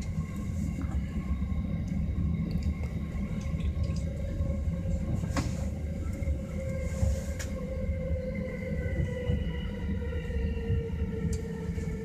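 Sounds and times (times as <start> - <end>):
faint whine: 0.0 - 12.0
wheels rumbling on rail: 0.0 - 12.0.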